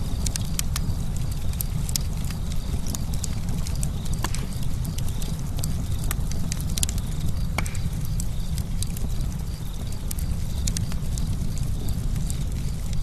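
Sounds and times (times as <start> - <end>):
burning wood crackling: 0.0 - 13.0
low rumble of flame: 0.0 - 13.0.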